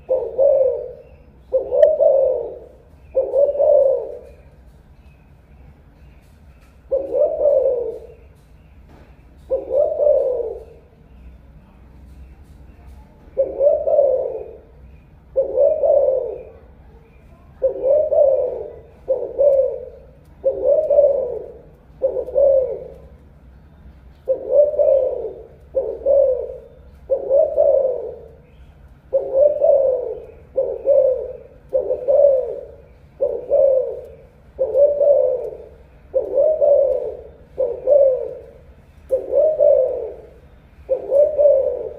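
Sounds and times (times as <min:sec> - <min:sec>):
dove cooing: 0:00.0 - 0:04.8, 0:06.2 - 0:08.5, 0:09.3 - 0:11.2, 0:13.2 - 0:41.9.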